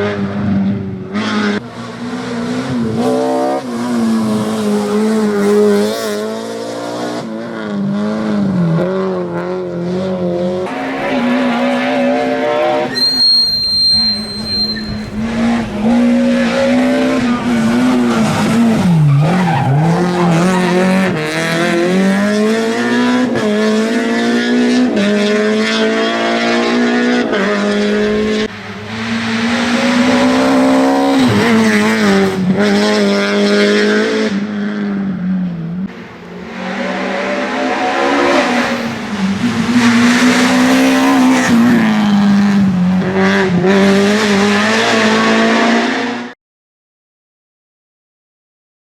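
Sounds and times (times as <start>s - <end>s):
rally car engine revving hard: 0.0s - 13.2s, 14.0s - 46.4s.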